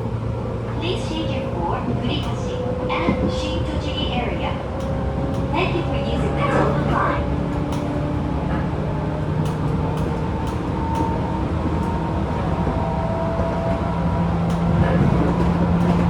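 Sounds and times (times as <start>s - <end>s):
train interior rumble: 0.0s - 16.0s
wheels clicking over rail joints: 1.6s - 16.0s.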